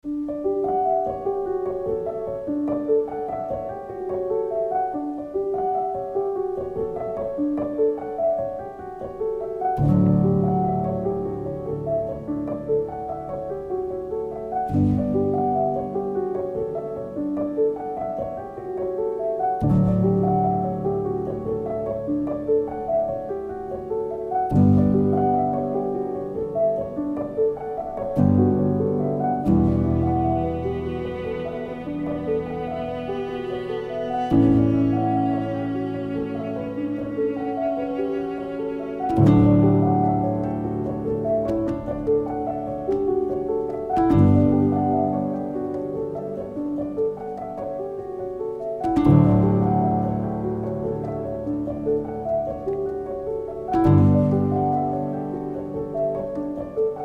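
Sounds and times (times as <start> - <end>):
gentle piano melody: 0.0 - 57.0.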